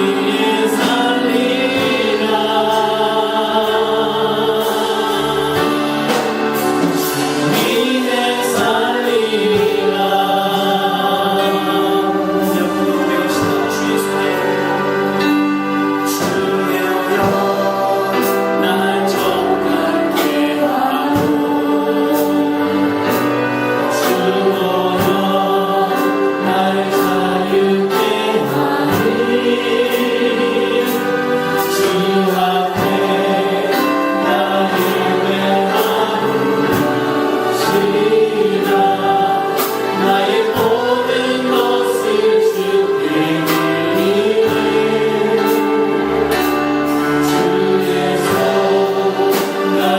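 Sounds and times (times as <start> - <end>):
choir singing: 0.0 - 49.9
instrumental accompaniment with beat: 0.0 - 49.9.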